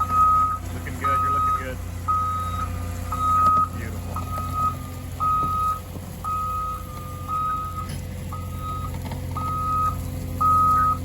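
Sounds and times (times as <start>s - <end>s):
backup alarm beeping: 0.0s - 11.0s
heavy engine humming: 0.0s - 11.0s.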